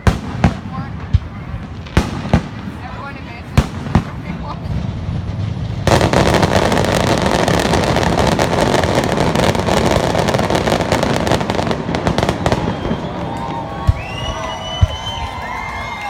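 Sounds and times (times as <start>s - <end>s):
firework bang: 0.0s - 15.2s
fireworks crackling: 0.0s - 16.0s.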